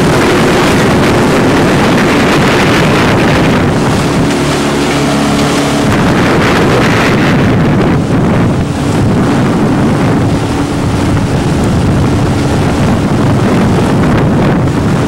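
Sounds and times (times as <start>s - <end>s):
outboard motor running: 0.0s - 15.0s
wind buffeting microphone: 0.0s - 15.0s.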